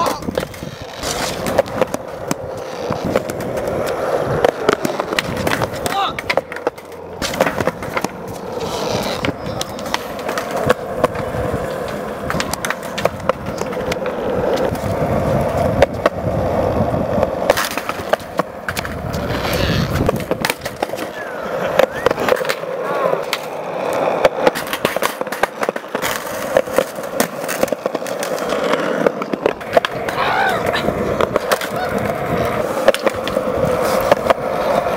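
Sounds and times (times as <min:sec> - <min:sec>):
skateboard pops and landings: 0:00.0 - 0:34.9
skateboard wheels rolling on concrete: 0:00.0 - 0:34.9.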